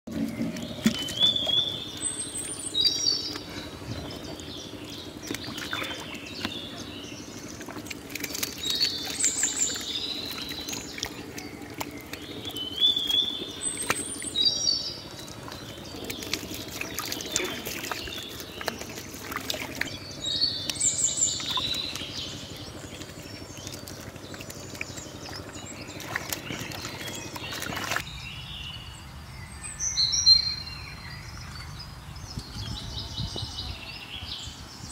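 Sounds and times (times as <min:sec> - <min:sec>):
water trickling and splashing: 0:00.1 - 0:28.1
songbird chirping: 0:00.1 - 0:34.9.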